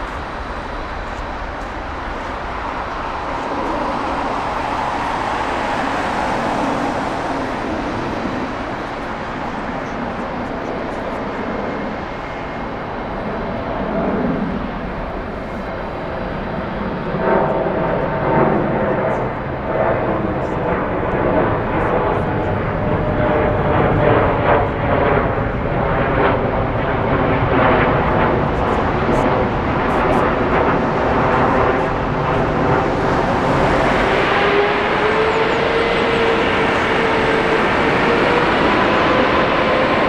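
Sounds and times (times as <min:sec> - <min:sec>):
jet airliner engines: 0:00.0 - 0:40.0.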